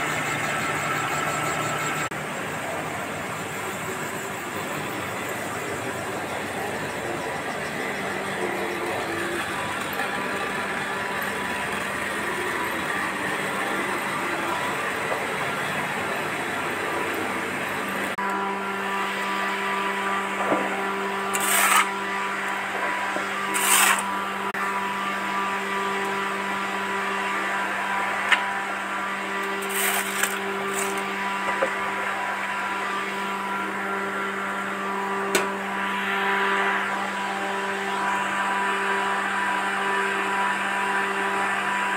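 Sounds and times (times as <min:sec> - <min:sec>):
even drone: 0:00.0 - 0:41.9
machine hum: 0:00.0 - 0:41.9.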